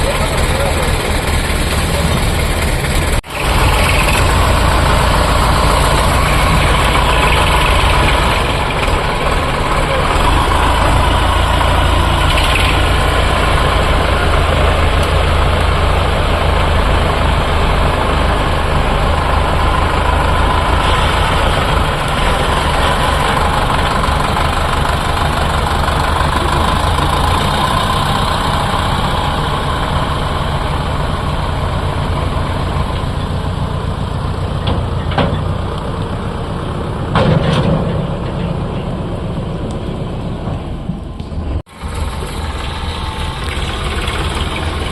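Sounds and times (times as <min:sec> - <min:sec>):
tractor diesel engine droning: 0:00.0 - 0:44.9.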